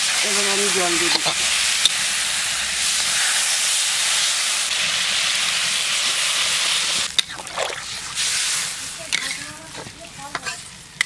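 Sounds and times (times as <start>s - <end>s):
water sizzling in hot oil: 0.0s - 11.0s.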